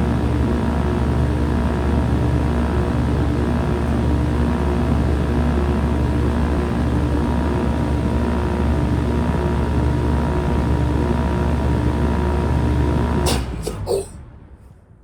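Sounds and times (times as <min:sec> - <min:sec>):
heat pump humming: 0:00.0 - 0:13.9.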